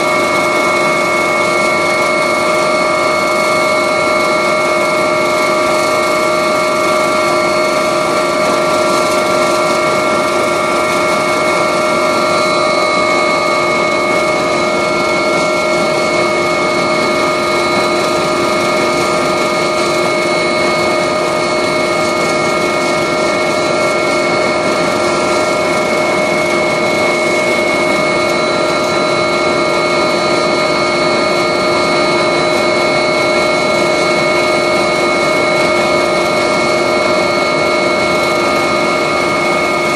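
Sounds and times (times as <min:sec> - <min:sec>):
helicopter turbine and rotor noise: 0:00.0 - 0:39.9
high engine whine: 0:00.0 - 0:39.9.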